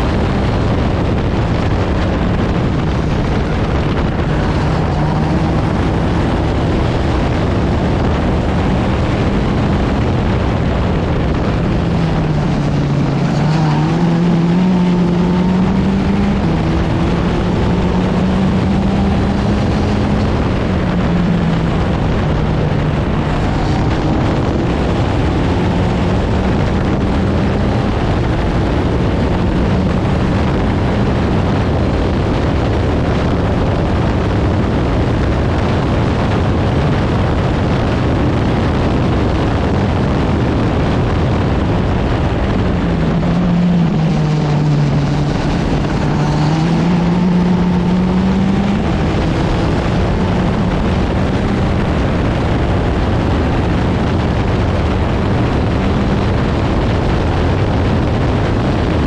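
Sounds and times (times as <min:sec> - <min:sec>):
race car engine: 0:00.0 - 0:59.0
wind rush: 0:00.0 - 0:59.0.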